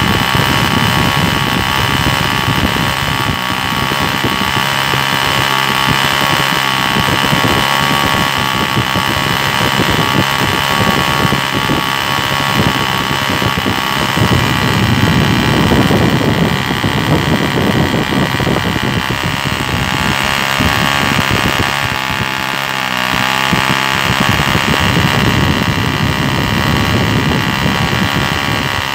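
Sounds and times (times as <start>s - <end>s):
model engine running: 0.0s - 28.9s.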